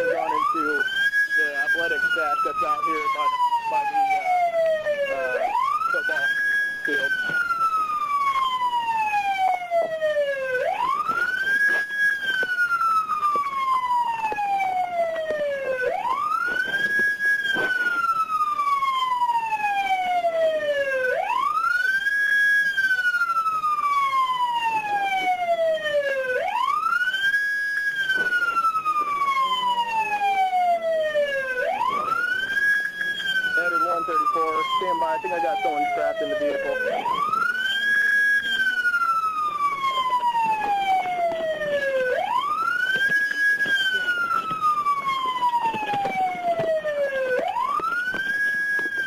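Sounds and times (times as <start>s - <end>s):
police siren wailing: 0.0s - 49.0s.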